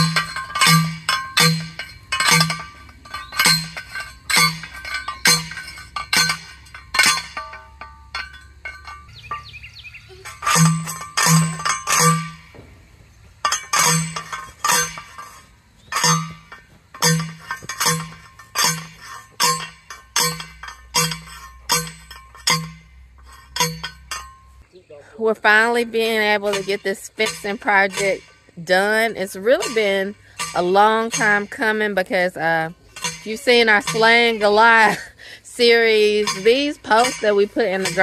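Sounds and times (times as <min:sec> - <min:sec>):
post driver clanging on metal post: 0:00.0 - 0:12.7, 0:13.4 - 0:24.6, 0:25.4 - 0:38.0.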